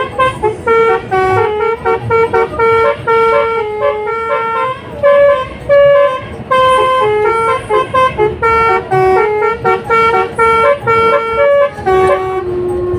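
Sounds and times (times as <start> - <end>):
bus musical horn playing tune: 0.0 - 12.9.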